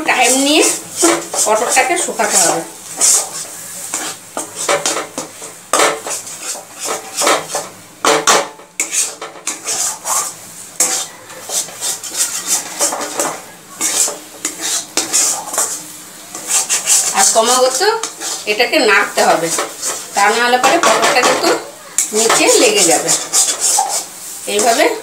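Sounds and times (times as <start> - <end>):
metal spatula scraping a pan: 0.0 - 25.0.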